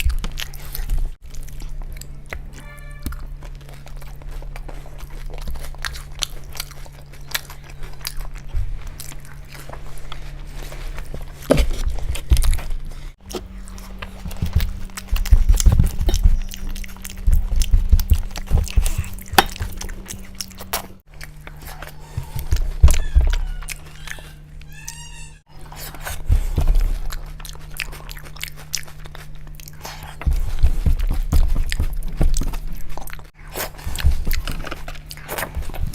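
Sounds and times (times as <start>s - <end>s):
chewing and crunching food: 0.0s - 35.9s
low hum: 0.0s - 35.9s.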